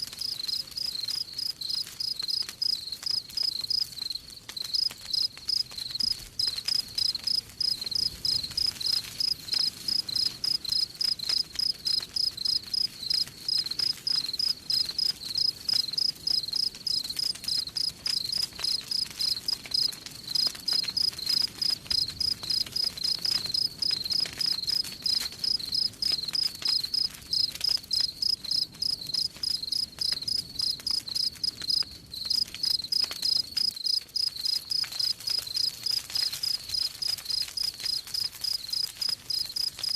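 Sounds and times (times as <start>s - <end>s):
campfire crackling: 0.0s - 39.9s
cricket chirping: 0.2s - 39.9s.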